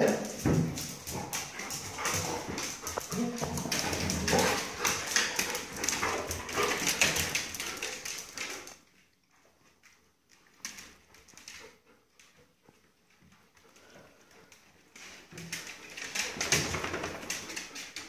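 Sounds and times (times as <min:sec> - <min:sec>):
dogs scuffling in play: 0:00.0 - 0:18.0.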